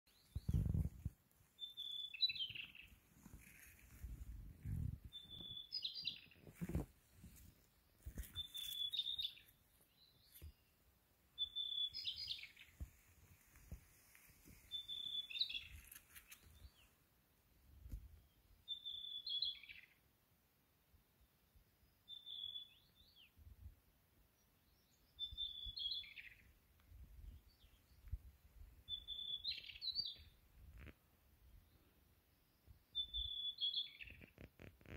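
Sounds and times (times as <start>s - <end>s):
songbird singing: 0.1s - 20.2s, 20.8s - 34.9s.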